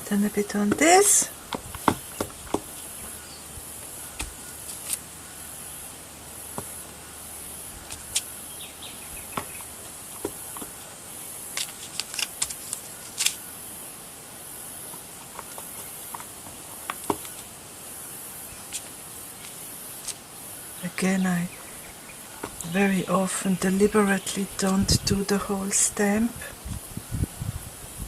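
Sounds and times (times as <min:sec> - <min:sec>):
faint high hiss: 0:00.0 - 0:28.0.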